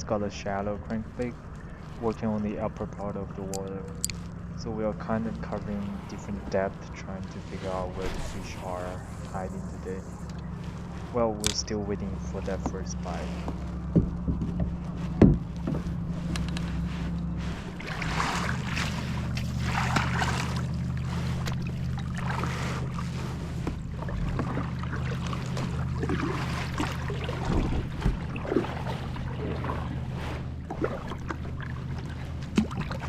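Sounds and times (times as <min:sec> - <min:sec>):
steady low hum: 0:00.0 - 0:33.0
water washing against hull: 0:00.0 - 0:33.0.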